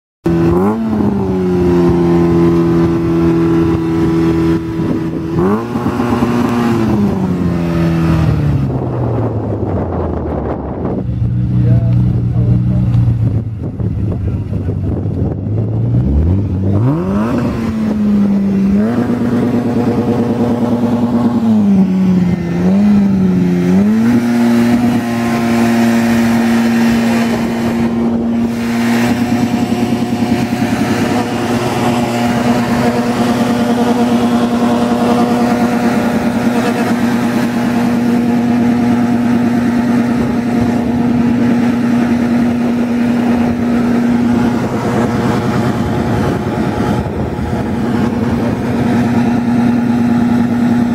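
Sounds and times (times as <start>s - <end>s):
car engine revving: 0.2s - 50.9s.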